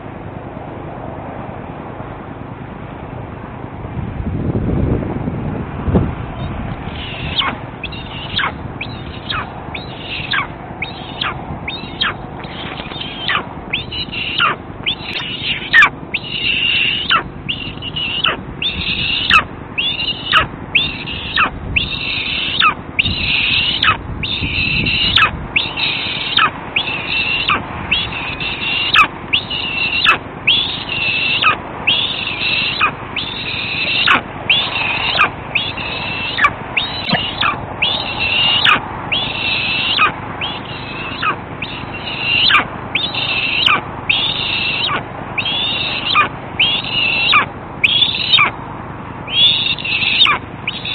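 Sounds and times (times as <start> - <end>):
young eagle begging calls: 6.4 - 48.6, 49.3 - 50.9.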